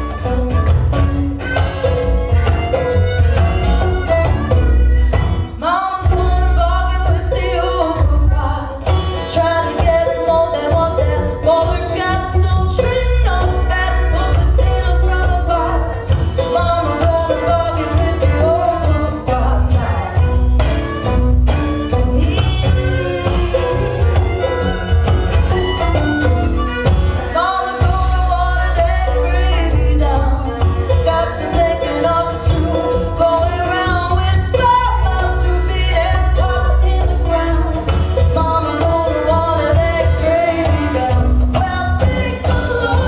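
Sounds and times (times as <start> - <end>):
folk band playing: 0.0 - 43.0
woman singing: 3.6 - 20.5, 21.8 - 24.6, 25.5 - 43.0.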